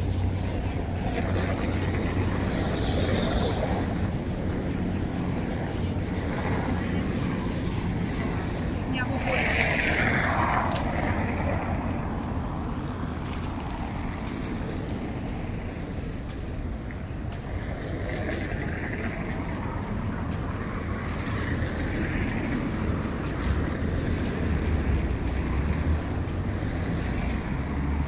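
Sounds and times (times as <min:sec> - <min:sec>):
passing vehicles rumbling: 0:00.0 - 0:28.0.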